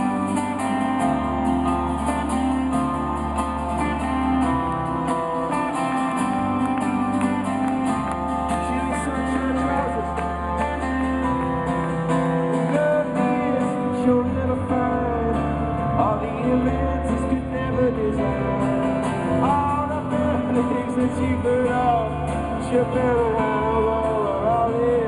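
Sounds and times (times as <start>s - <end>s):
electric guitar: 0.0s - 25.0s
live rock band playing: 0.0s - 25.0s
sustained bass notes: 0.0s - 25.0s.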